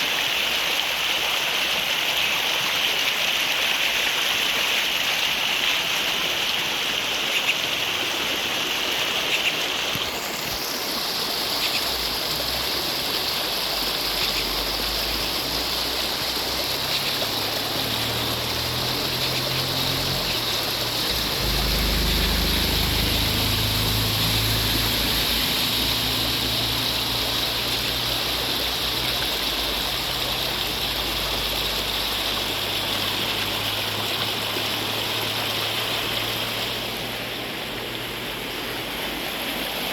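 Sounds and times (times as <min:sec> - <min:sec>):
rushing water from heavy rain: 0:00.0 - 0:39.9.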